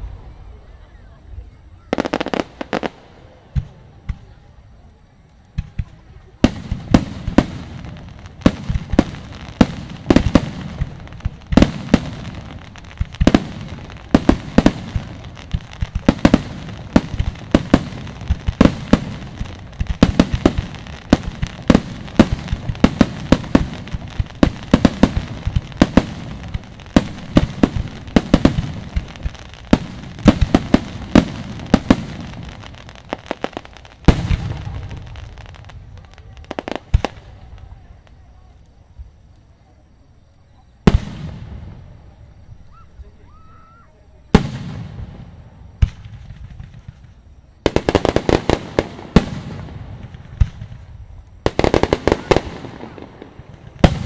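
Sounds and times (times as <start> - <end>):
fireworks bangs: 1.4 - 4.6, 5.5 - 39.2, 40.8 - 54.0.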